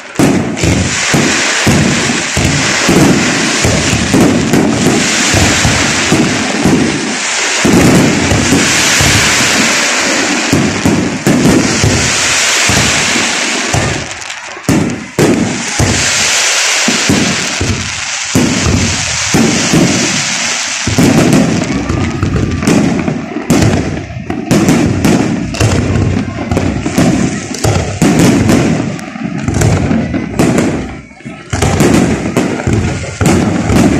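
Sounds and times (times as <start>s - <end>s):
firework bangs: 0.0s - 33.9s
firework crackle: 0.0s - 33.9s.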